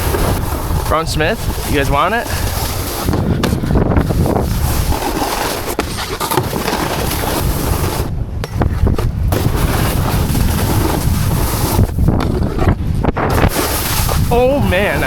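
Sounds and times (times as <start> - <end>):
snowboard scraping over snow: 0.0 - 15.0
wind over microphone: 0.0 - 15.0.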